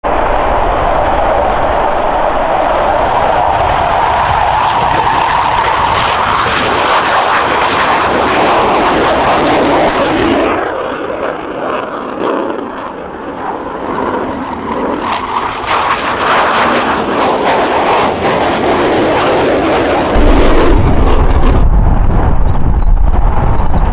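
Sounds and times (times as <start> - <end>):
jet engines low pass: 0.0 - 23.9.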